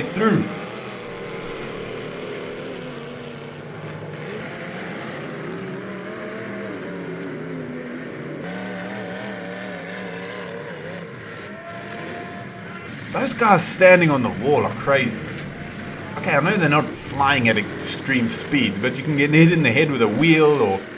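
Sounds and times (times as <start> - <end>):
car engines revving: 0.0 - 20.9.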